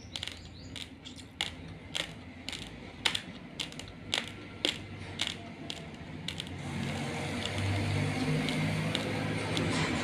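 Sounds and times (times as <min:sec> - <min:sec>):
rice crunching between teeth: 0:00.0 - 0:10.0.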